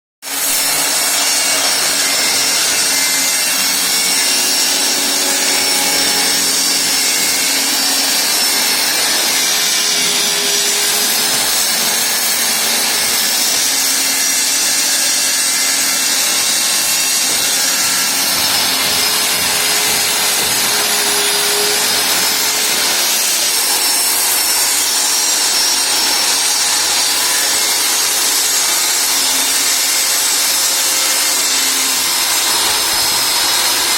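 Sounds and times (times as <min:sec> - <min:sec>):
circular saw cutting plywood: 0:00.3 - 0:33.9.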